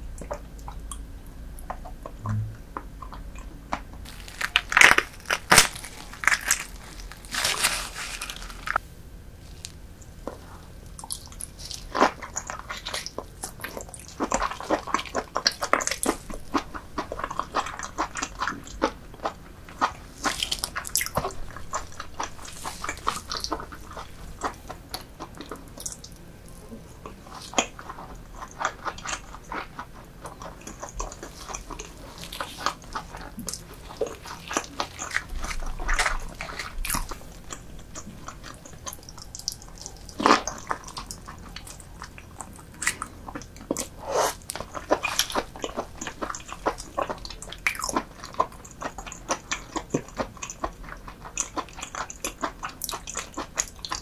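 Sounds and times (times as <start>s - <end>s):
biting and chewing food: 0.1s - 8.8s, 9.4s - 54.0s.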